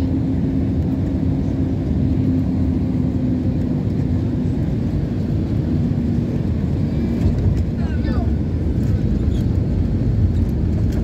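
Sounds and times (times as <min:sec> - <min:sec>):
low rumble of jet engines and airflow: 0:00.0 - 0:11.0.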